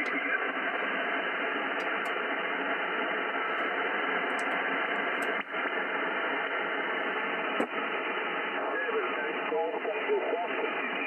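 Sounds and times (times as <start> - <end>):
radio receiver static hiss: 0.0 - 11.0.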